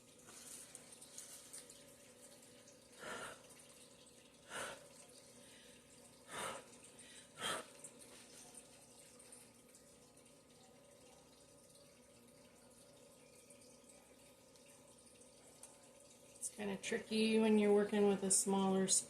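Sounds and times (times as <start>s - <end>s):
faint room hiss: 0.0s - 19.0s.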